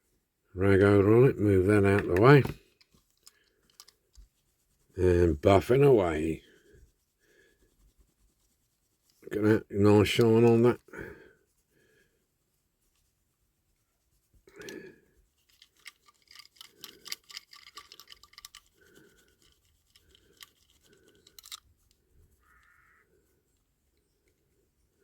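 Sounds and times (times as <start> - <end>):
cloth rubbing on metal model car: 1.6 - 25.0.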